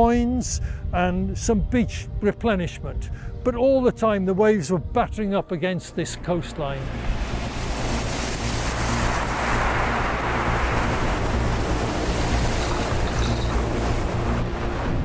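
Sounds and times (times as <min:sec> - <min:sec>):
wind rumble on microphone: 0:00.0 - 0:03.9, 0:06.8 - 0:15.0.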